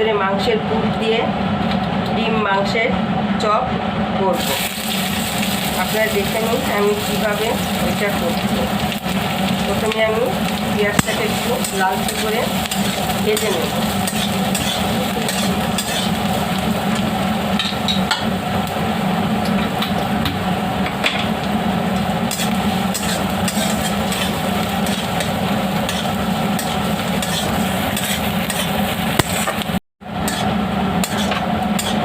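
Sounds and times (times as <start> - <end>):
onion sizzling in a pan: 4.3 - 32.0.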